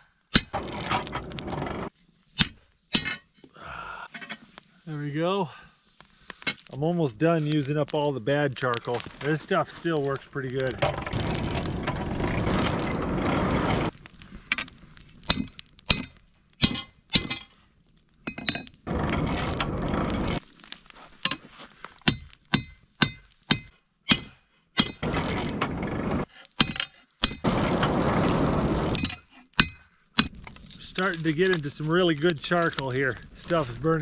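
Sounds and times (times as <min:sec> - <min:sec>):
charcoal clinking and cracking: 0:00.3 - 0:01.6, 0:06.0 - 0:34.0.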